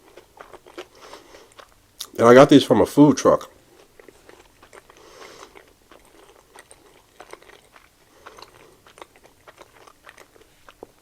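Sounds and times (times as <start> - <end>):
batter crunching while chewing: 0.0 - 2.5, 3.3 - 11.0.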